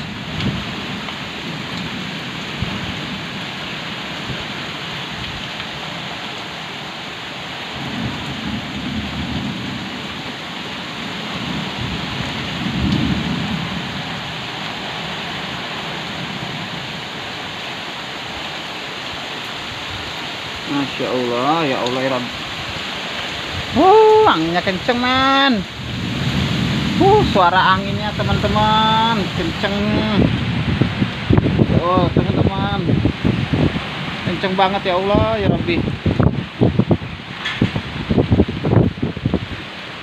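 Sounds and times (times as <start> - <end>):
thunder rumbling: 0.0 - 5.5, 7.6 - 17.2, 20.7 - 40.0
heavy rain on plastic roof: 0.0 - 40.0.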